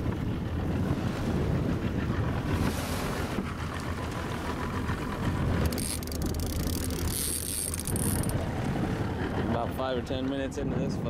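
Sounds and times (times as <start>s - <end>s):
boat motor running: 0.0s - 11.0s
wind buffeting microphone: 0.0s - 11.0s.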